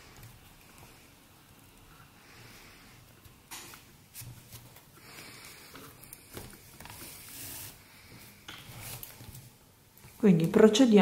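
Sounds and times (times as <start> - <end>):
hand sewing rustling and scraping: 0.0 - 10.4.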